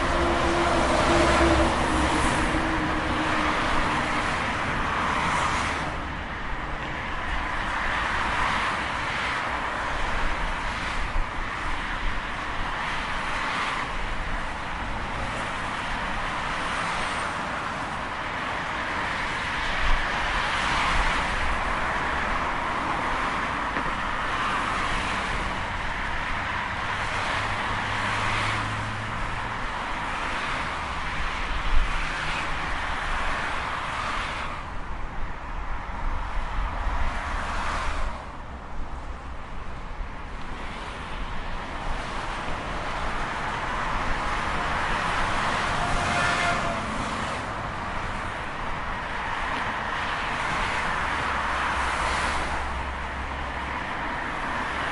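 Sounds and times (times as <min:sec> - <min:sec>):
highway traffic passing: 0:00.0 - 0:54.9.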